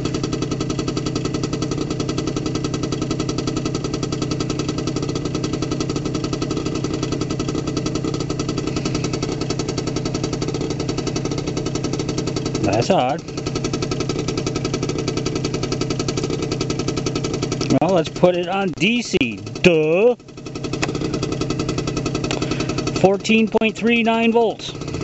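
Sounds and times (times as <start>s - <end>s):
scooter engine idling: 0.0s - 25.0s.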